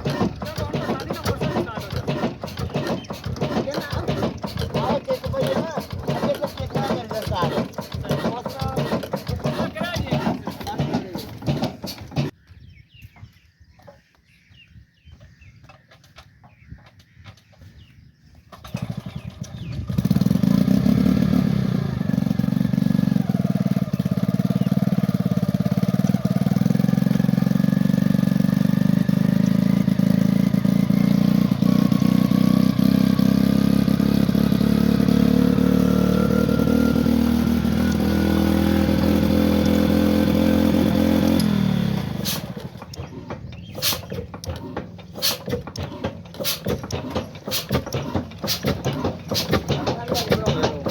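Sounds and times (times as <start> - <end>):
diesel engine running: 0.0 - 12.4, 18.6 - 50.9.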